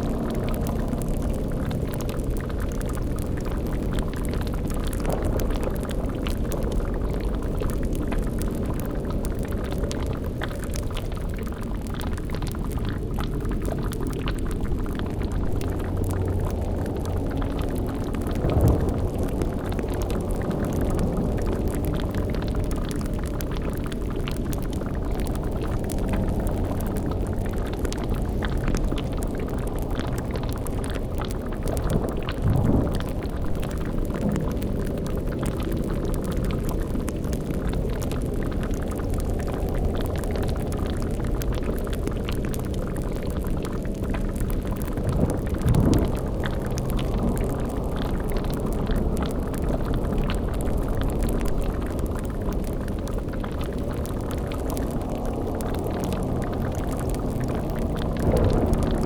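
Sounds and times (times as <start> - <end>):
bubbling liquid: 0.0 - 59.0
low rumbling drone: 0.0 - 59.0.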